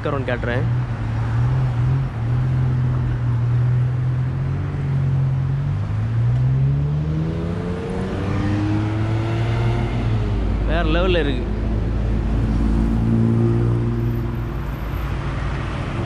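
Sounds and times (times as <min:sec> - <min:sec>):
street traffic: 0:00.0 - 0:16.0
vehicle engine humming: 0:00.0 - 0:16.0.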